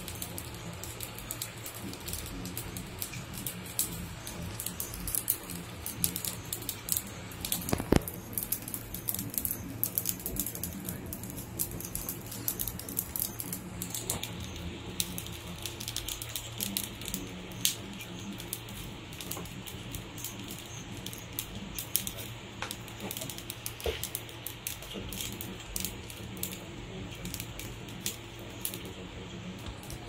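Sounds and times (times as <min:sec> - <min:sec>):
fire crackling and popping: 0:00.0 - 0:30.0
steady low hum: 0:00.0 - 0:30.0.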